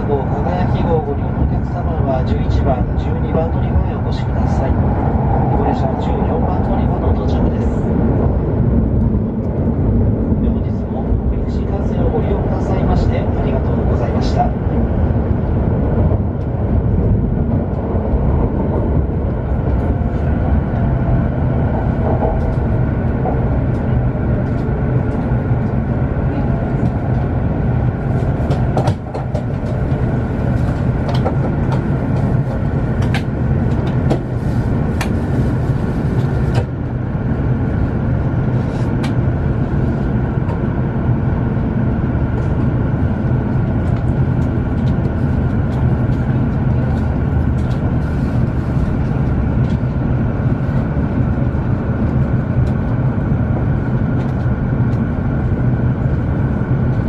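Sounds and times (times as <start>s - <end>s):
train cabin rumble and hum: 0.0s - 57.0s.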